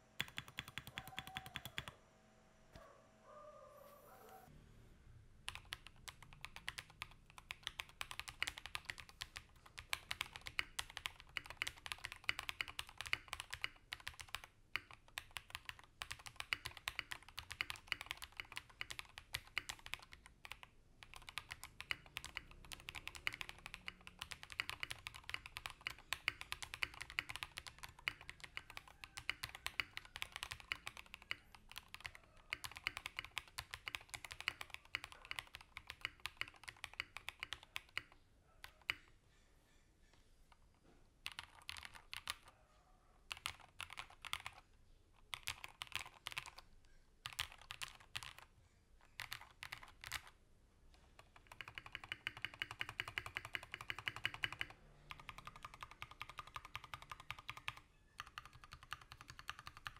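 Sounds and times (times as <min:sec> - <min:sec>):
fast mechanical keyboard typing: 0:00.2 - 0:01.9, 0:05.5 - 0:39.0, 0:41.2 - 0:42.5, 0:43.3 - 0:44.6, 0:45.3 - 0:46.6, 0:47.2 - 0:48.5, 0:49.2 - 0:50.4, 0:51.2 - 0:59.9.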